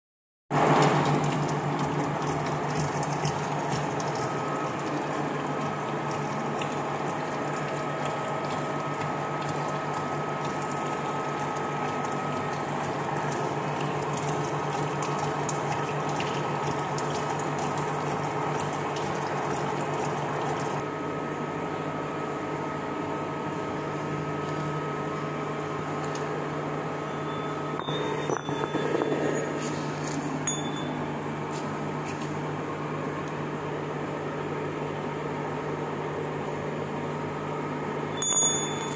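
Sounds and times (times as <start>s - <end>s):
machine hum: 0.5s - 38.9s.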